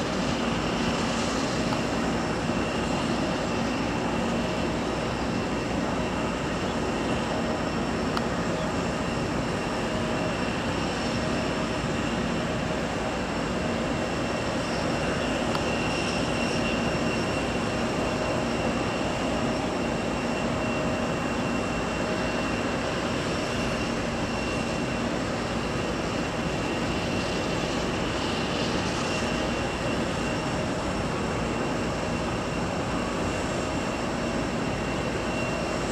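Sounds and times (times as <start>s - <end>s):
turbine whine: 0.0s - 35.9s.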